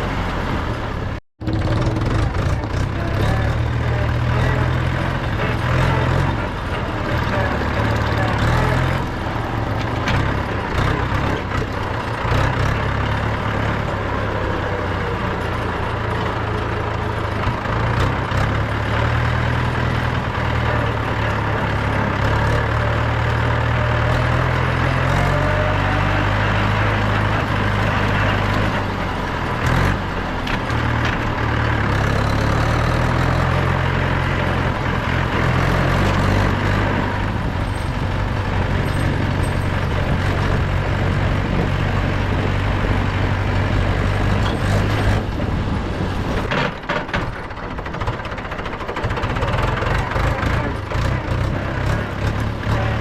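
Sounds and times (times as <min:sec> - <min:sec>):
engine knocks: 0:00.0 - 0:53.0
tractor diesel engine running: 0:00.0 - 0:53.0.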